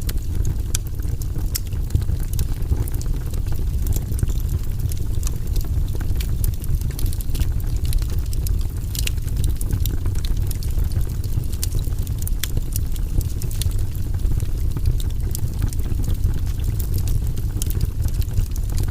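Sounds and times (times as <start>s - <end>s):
fire rumbling in fireplace: 0.0s - 18.9s
wood fire crackles and pops: 0.0s - 18.9s.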